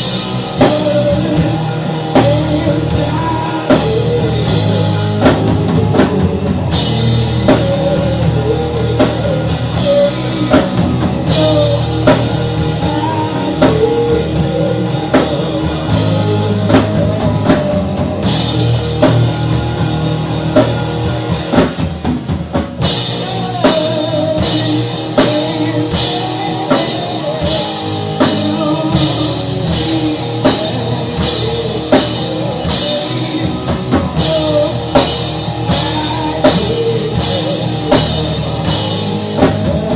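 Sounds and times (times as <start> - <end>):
rock music with drums and guitar: 0.0 - 39.9.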